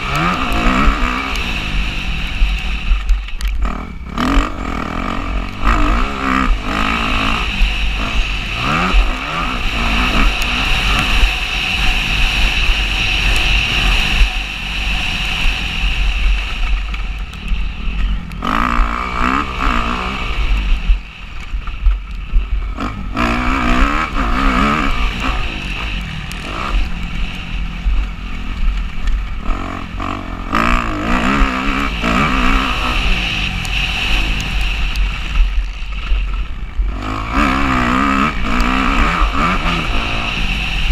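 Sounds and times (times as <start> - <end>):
deep rumble on microphone: 0.0 - 40.9
dirt bike engine revving: 0.0 - 40.9.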